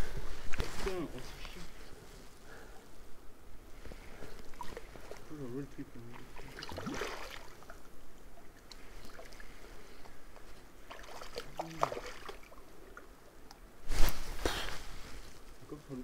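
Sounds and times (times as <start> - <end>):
light water noise: 0.0 - 16.0.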